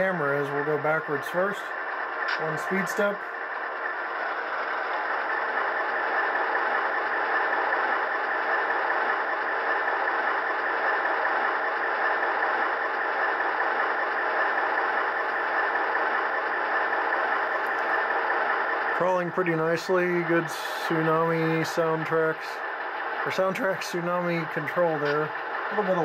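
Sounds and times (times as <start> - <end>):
diesel engine idling from small speaker: 0.0 - 26.0.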